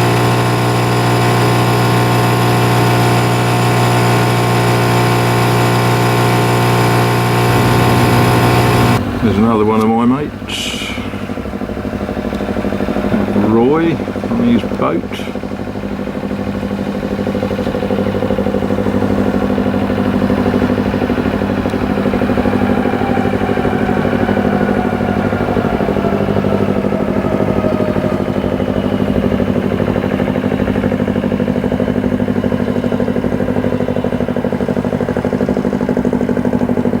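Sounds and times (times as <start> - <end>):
boat engine passing: 0.0 - 37.0
outboard motor running: 0.0 - 37.0.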